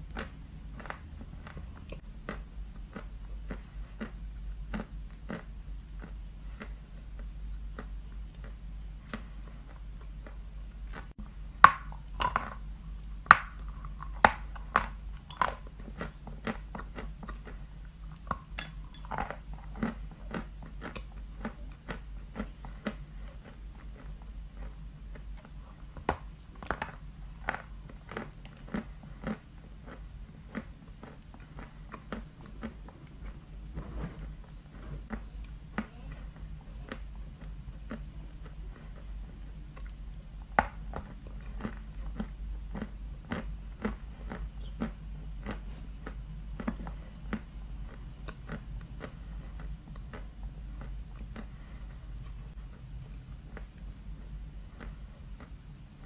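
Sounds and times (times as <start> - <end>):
chalk crunching while chewed: 0.0 - 55.6.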